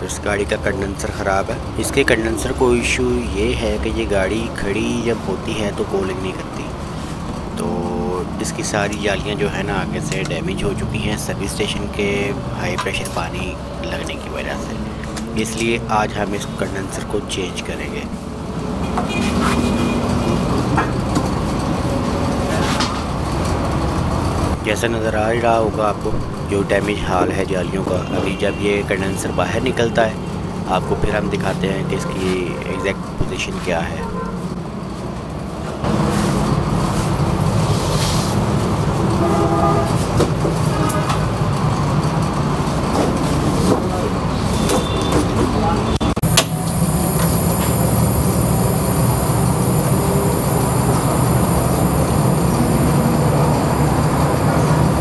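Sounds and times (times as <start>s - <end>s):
vehicle engine rumbling: 0.0s - 55.0s.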